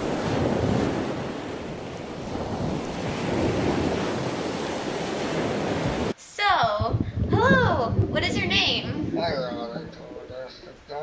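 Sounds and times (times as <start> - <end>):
ocean waves washing: 0.0 - 6.2, 6.9 - 10.1.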